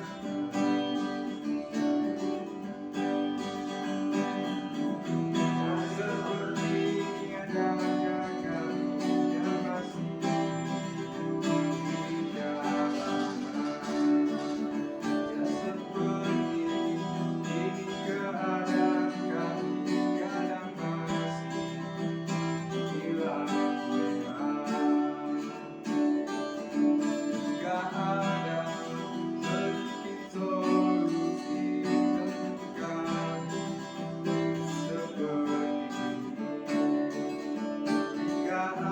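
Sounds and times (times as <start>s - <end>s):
person singing: 0.0s - 38.9s
strummed acoustic guitar: 0.0s - 38.9s.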